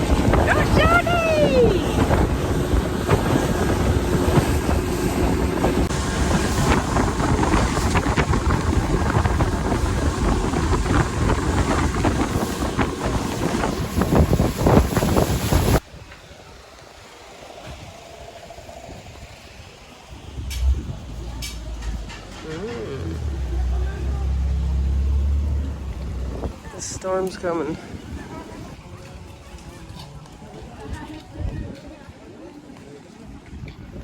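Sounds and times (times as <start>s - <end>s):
wind buffeting microphone: 0.0s - 16.1s, 18.8s - 32.5s, 33.3s - 34.0s
water rushing against boat: 0.0s - 30.0s.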